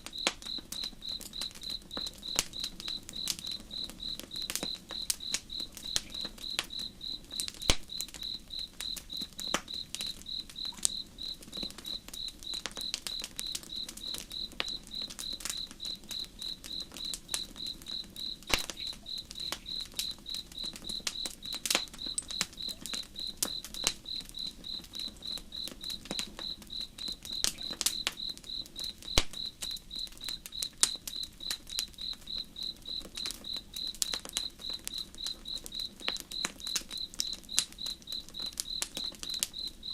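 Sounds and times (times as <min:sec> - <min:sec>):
campfire crackling and popping: 0:00.0 - 0:39.9
cricket chirping: 0:00.0 - 0:39.9.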